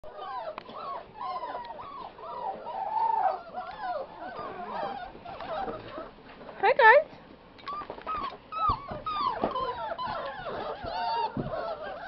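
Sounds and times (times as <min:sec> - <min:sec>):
puppies whining: 0:00.0 - 0:06.4, 0:07.6 - 0:12.0.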